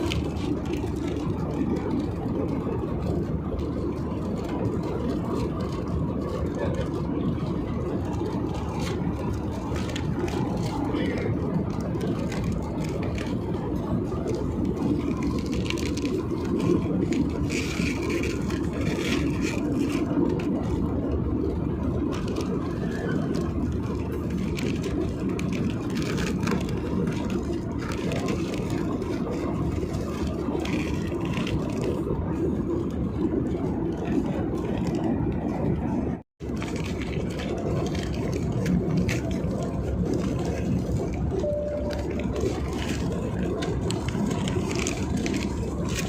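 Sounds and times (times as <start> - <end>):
faint clicks and rattles: 0.0 - 46.0
jet engine cabin noise: 0.0 - 46.0.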